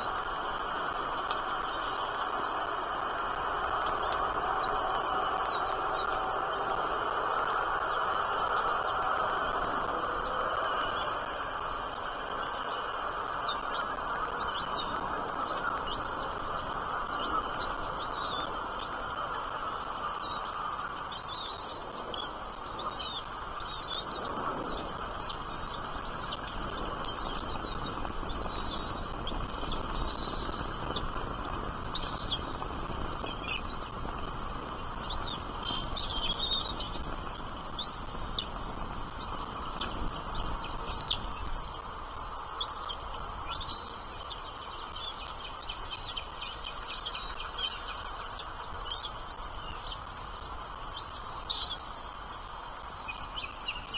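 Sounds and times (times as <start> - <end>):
small birds chirping: 0.0 - 53.9
steady background hiss: 0.0 - 53.9.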